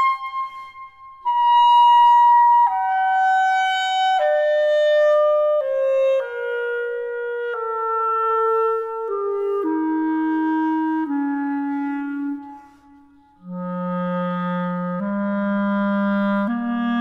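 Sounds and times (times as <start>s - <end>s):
solo instrument melody: 0.0s - 17.0s.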